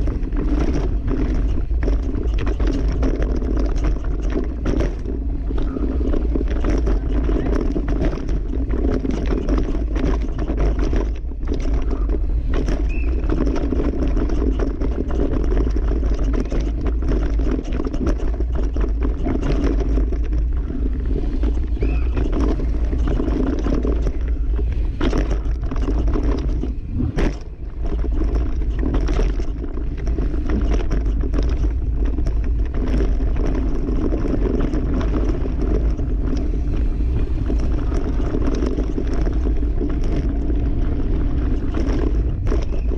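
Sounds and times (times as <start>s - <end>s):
bike chain and frame rattling: 0.0s - 42.9s
tyres rumbling over ground: 0.0s - 42.9s
wind buffeting microphone: 0.0s - 42.9s.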